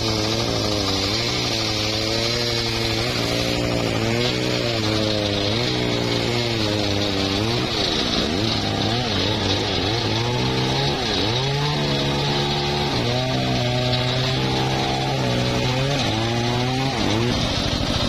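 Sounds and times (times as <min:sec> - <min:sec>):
circular sawmill cutting log: 0:00.0 - 0:18.0.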